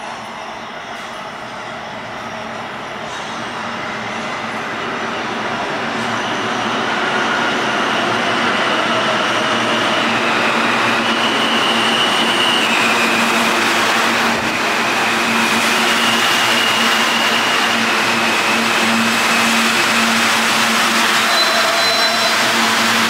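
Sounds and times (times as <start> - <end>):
subway train wheel and rail rush: 0.0 - 23.0.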